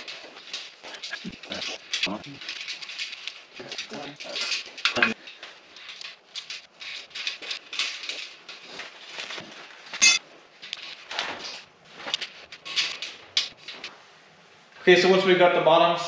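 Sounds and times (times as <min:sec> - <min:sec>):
steel parts clinking and knocking: 0:00.0 - 0:11.2, 0:12.1 - 0:13.9.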